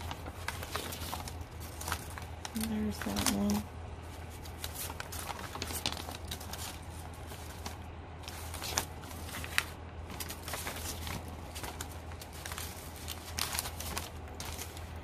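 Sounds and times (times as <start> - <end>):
low steady hum: 0.0 - 15.0
paper rustling and crackling: 0.0 - 15.0.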